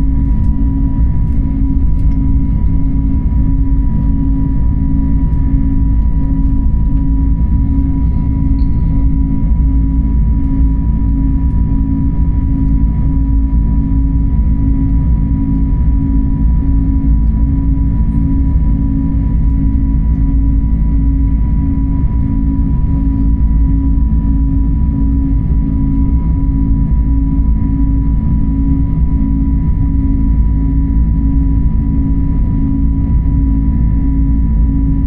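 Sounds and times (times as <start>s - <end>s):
constant hum: 0.0s - 35.0s
jet cabin engine rumble: 0.0s - 35.0s.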